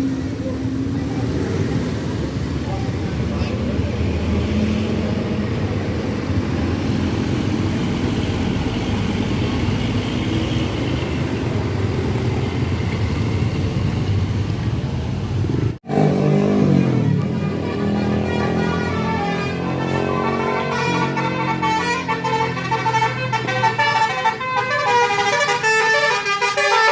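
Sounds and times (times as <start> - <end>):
bus engine running: 0.0 - 26.9
road noise: 0.0 - 26.9.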